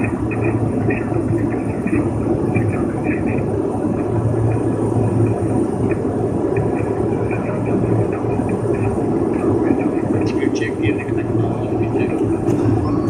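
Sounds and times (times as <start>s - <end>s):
propeller airplane engine drone: 0.0s - 13.0s.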